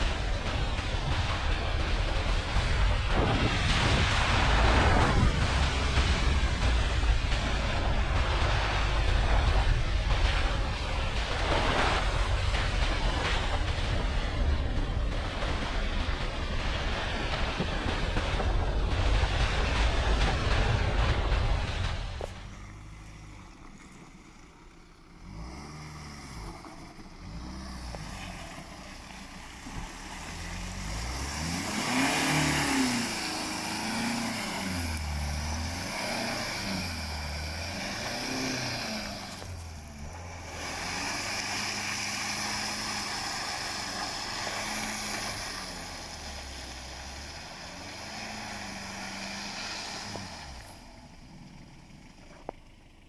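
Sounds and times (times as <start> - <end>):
diesel engine revving: 0.0 - 53.0.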